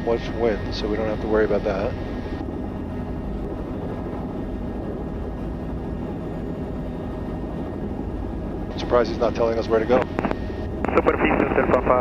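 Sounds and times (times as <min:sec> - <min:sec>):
helicopter engine and rotors drone: 0:00.0 - 0:12.0.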